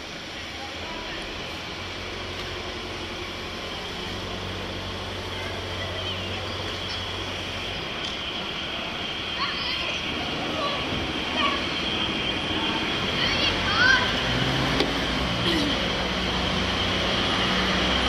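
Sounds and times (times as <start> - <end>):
steam locomotive low rumble: 0.0 - 18.0.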